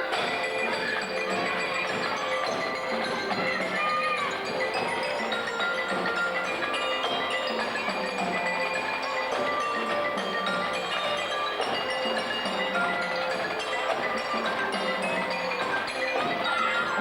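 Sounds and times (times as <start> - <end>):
band music with glockenspiel: 0.0 - 17.0.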